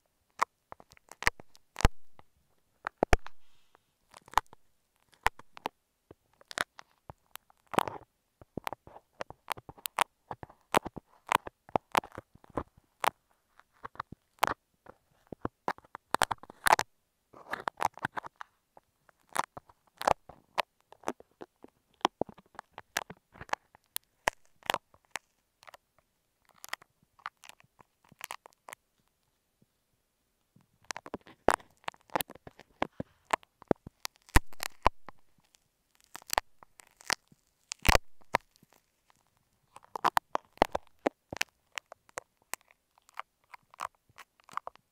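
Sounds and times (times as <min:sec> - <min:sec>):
crackling and clicks on microphone: 0:00.0 - 0:29.4, 0:30.4 - 0:44.9.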